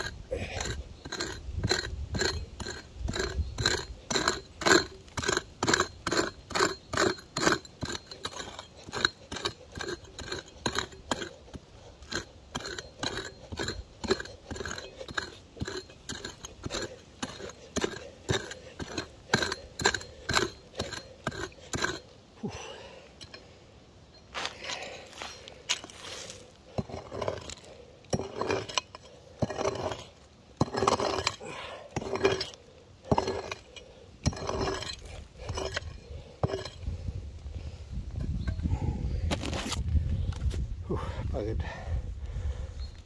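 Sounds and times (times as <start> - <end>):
hand pick chopping gravelly soil: 0.0 - 23.4, 24.3 - 37.2.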